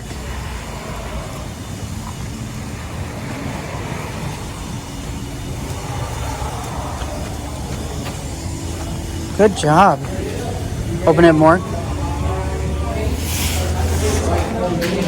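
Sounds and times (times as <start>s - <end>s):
faint hum: 0.0s - 14.9s
low room rumble: 0.0s - 15.0s.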